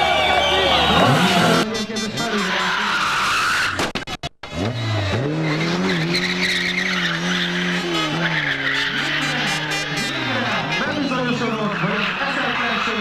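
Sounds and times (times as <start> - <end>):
rally car engine revving: 0.3 - 13.0.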